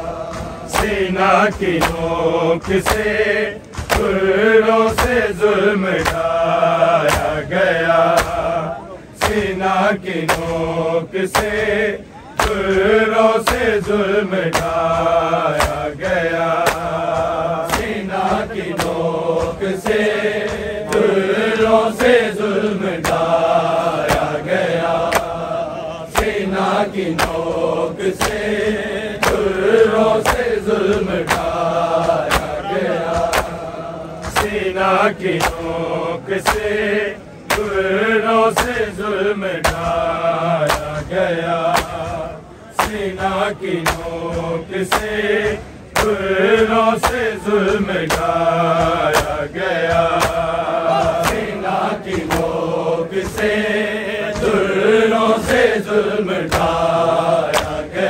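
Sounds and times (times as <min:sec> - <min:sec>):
crowd chest-beating slaps: 0:00.0 - 0:58.0
men chanting a lament: 0:00.0 - 0:58.0.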